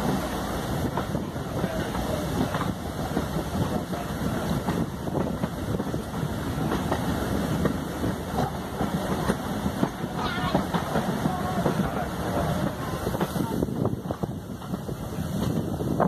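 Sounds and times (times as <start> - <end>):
train wheels rumbling on track: 0.0 - 16.0
wind buffeting microphone: 0.0 - 16.0.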